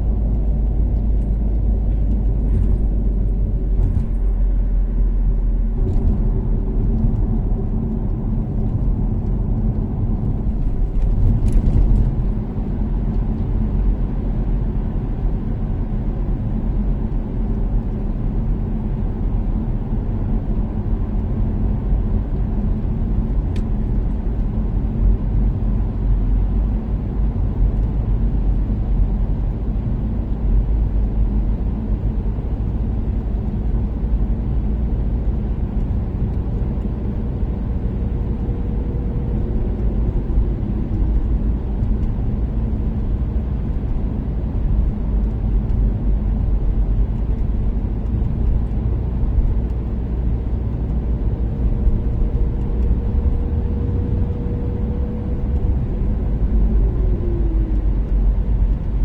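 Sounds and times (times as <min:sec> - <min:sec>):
car engine cruising: 0:00.0 - 0:59.0
road and tyre rumble: 0:00.0 - 0:59.0.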